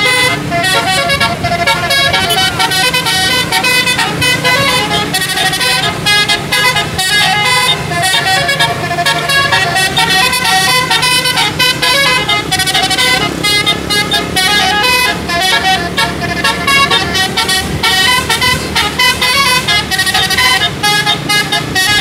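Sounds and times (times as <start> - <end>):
musical air horn playing tune: 0.0 - 22.0.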